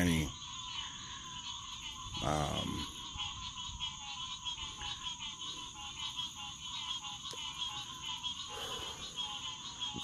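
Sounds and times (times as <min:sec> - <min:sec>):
frogs calling in pulses: 0:00.0 - 0:10.0
high insect drone: 0:00.0 - 0:10.0.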